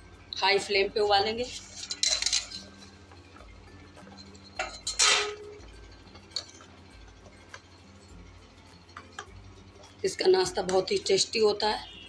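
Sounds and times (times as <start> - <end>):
water boiling in pot: 0.1 - 12.0
metal clinks: 1.6 - 11.2.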